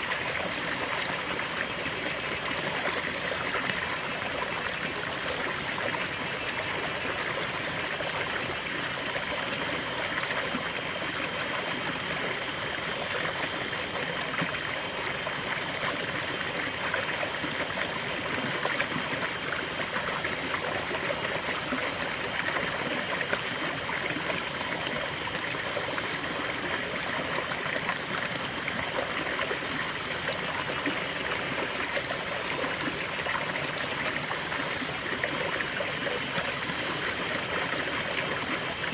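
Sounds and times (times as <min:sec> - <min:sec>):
waterfall and stream flowing: 0:00.0 - 0:38.9.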